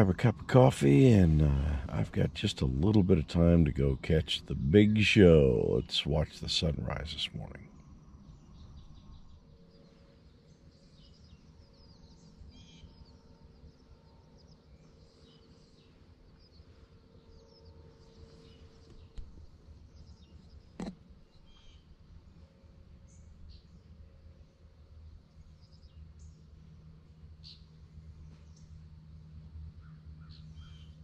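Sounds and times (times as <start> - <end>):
birds chirping: 0.0 - 31.0
low steady rumble: 0.0 - 31.0.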